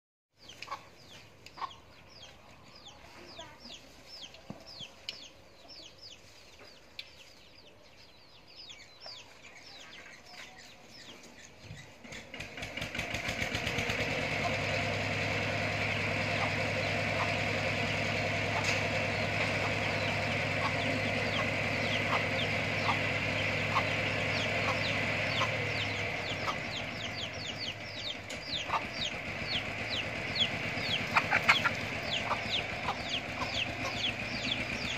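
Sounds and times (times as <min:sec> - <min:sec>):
birds chirping: 0:00.4 - 0:34.9
engine hum with low drone: 0:00.4 - 0:34.9.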